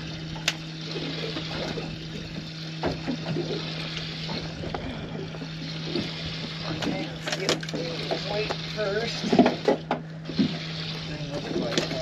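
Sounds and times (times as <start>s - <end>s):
steady low hum: 0.0s - 12.0s
water sloshing against hull: 0.0s - 12.0s.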